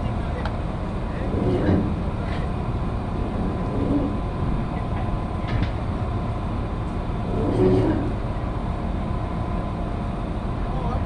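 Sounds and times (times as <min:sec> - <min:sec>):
faint constant hum: 0:00.0 - 0:11.0
low machinery rumble: 0:00.0 - 0:11.0.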